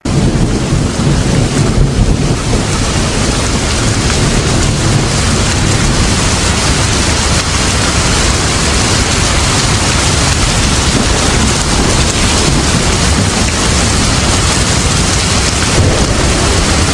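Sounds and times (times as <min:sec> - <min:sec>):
continuous low rumble: 0:00.0 - 0:16.9
heavy rain: 0:00.0 - 0:16.9.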